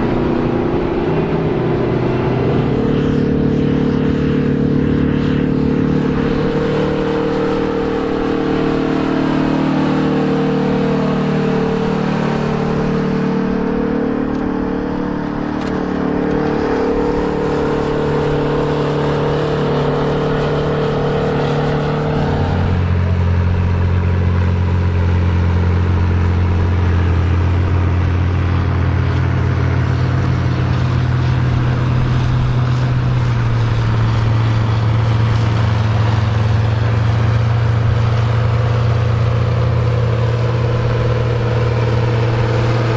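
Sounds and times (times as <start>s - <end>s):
deeper engine sound: 0.0s - 42.9s
tractor engine drone: 0.0s - 42.9s.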